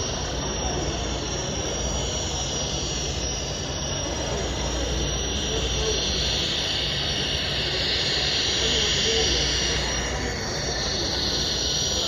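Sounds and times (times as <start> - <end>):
crowd din in large hall: 0.0 - 12.0.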